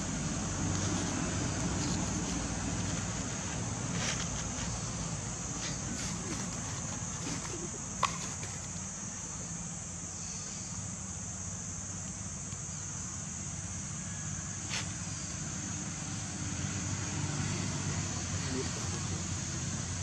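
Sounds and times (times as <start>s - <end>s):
constant high hiss: 0.0s - 20.0s.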